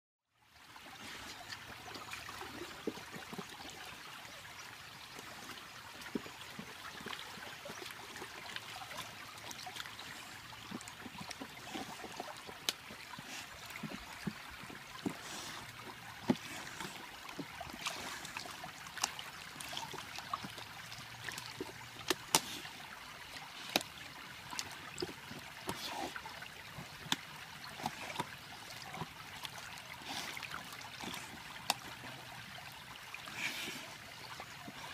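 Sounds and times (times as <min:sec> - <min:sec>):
stream running over rocks: 0:00.4 - 0:34.9.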